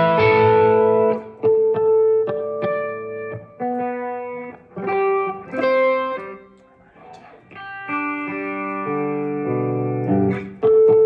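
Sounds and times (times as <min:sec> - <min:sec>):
overdriven electric guitar chords: 0:00.0 - 0:11.0.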